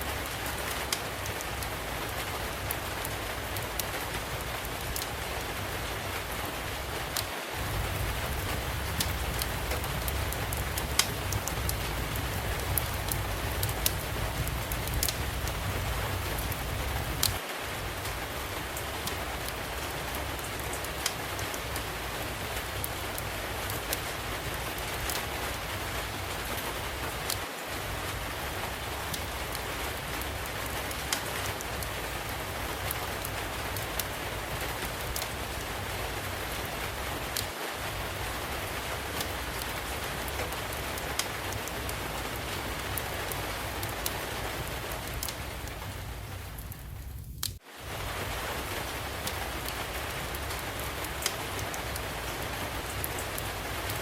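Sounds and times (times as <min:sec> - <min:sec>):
steady rain hiss: 0:00.0 - 0:54.0
wood fire crackling: 0:00.0 - 0:54.0.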